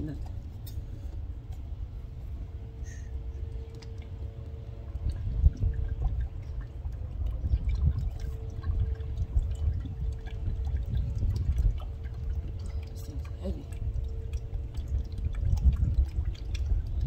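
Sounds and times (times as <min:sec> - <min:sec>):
small drips and ticks: 0:00.0 - 0:01.8, 0:02.5 - 0:17.0
oil pouring and glugging: 0:00.0 - 0:17.0.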